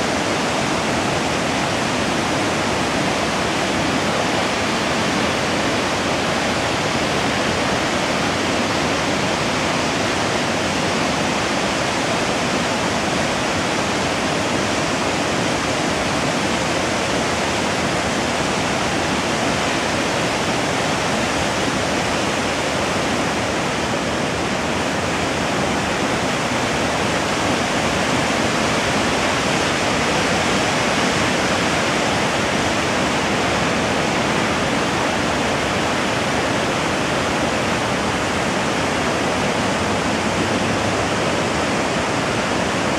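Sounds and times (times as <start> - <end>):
steady rushing noise: 0.0 - 42.9.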